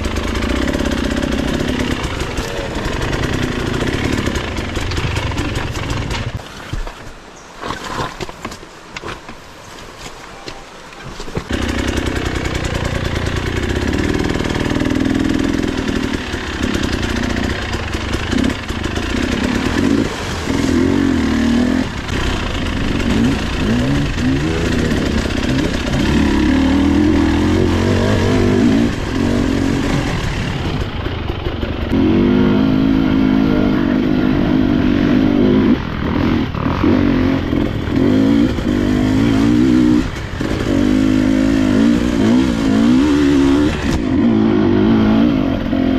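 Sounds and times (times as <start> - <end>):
motorbike engine revving: 0.0 - 6.4, 11.4 - 45.9.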